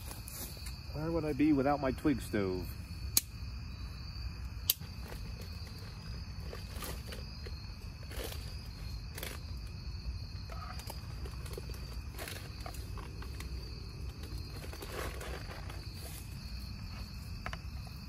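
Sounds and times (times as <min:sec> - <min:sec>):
twigs crackling in a stove: 0:00.0 - 0:03.4, 0:04.3 - 0:18.0
insects chirring: 0:00.0 - 0:18.0.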